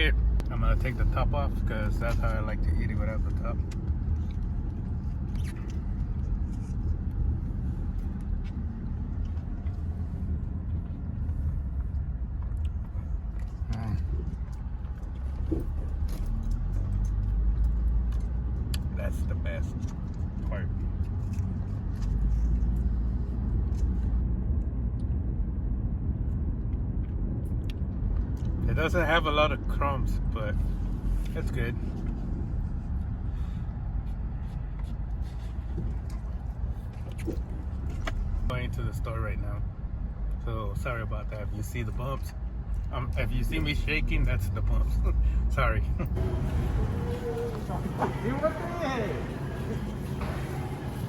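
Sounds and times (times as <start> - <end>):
car interior rumble: 0.0 - 51.0.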